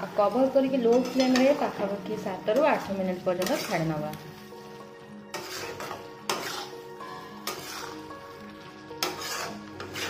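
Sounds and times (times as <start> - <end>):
background music: 0.0 - 10.0
spatula scraping metal pan: 0.8 - 1.8, 2.5 - 10.0.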